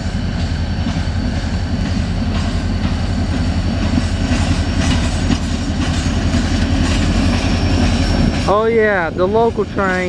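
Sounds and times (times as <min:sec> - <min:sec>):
diesel locomotive engine drone: 0:00.0 - 0:10.0.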